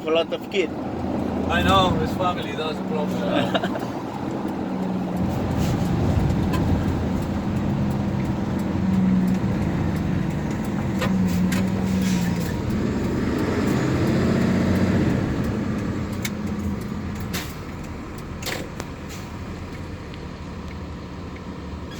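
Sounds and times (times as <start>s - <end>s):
road noise: 0.0s - 21.9s
truck engine running: 0.0s - 21.9s.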